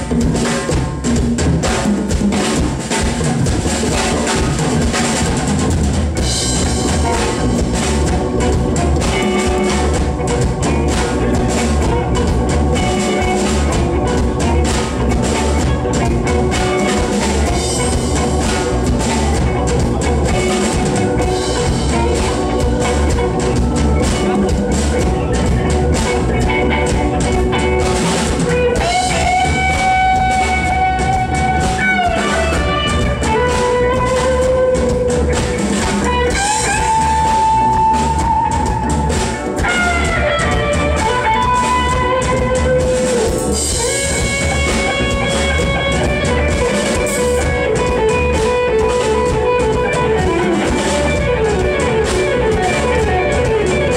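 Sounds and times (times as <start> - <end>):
band music with drums and guitar: 0.0 - 53.9
long held guitar notes: 4.1 - 53.9.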